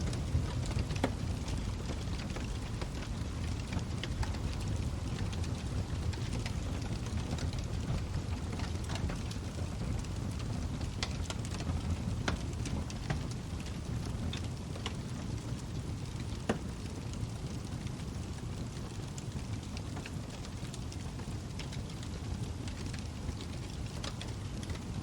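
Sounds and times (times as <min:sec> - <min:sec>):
log fire crackling: 0:00.0 - 0:25.0.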